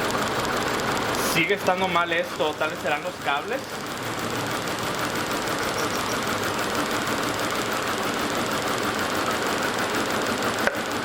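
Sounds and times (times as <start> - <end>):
car engine idling rough: 0.0 - 11.0.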